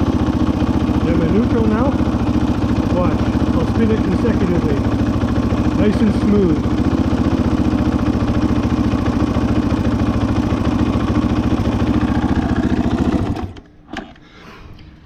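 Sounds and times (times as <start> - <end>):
dirt bike engine idling: 0.0 - 13.6.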